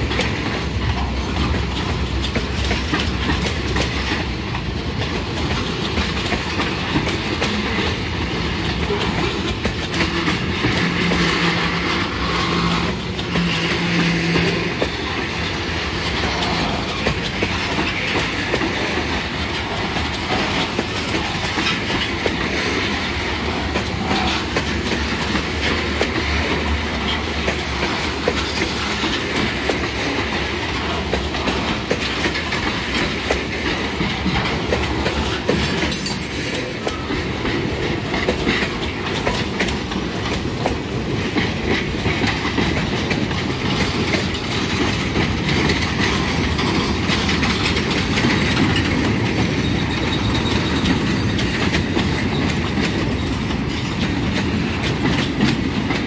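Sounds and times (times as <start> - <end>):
freight train rumbling past: 0.0 - 56.0
wheels clicking over rail joints: 0.0 - 56.0.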